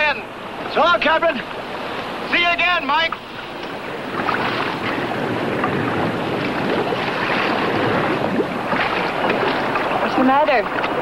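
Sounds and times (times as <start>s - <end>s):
boat motor and water rushing: 0.0s - 11.0s.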